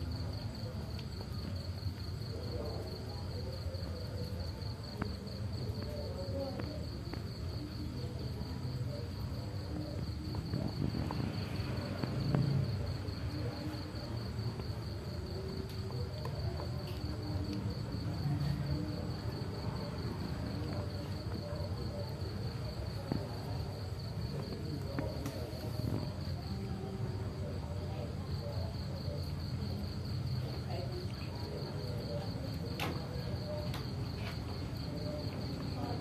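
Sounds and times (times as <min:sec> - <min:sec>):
low background noise: 0:00.0 - 0:36.0.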